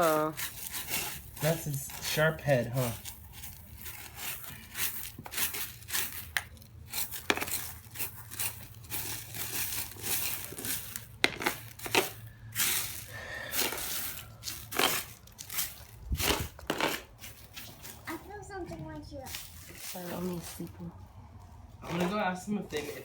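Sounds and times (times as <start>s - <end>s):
digging and scraping in ground: 0.0s - 23.0s.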